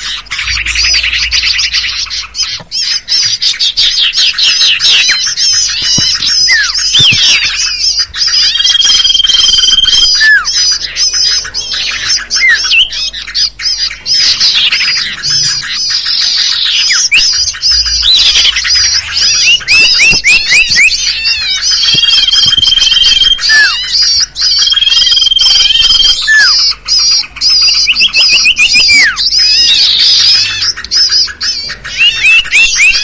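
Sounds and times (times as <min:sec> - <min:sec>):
bird calls chattering: 0:00.0 - 0:33.0
bird trills: 0:00.0 - 0:33.0.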